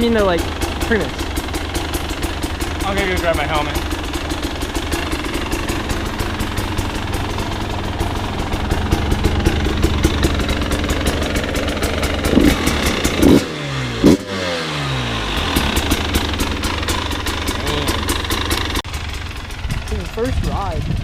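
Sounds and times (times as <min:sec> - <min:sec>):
dirt bike engine idling and revving: 0:00.0 - 0:21.0.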